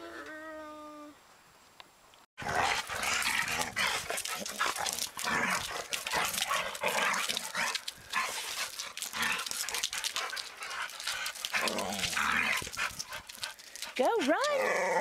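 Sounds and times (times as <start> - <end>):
dogs barking and yipping: 2.4 - 15.0.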